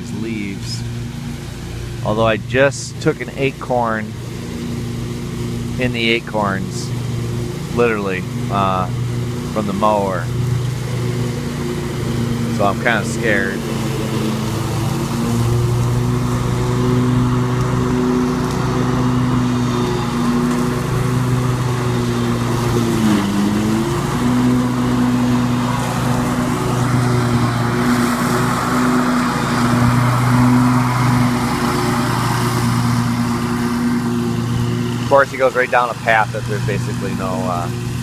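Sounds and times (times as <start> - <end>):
lawn mower engine drone: 0.0 - 38.0
mower blades hissing: 0.0 - 38.0.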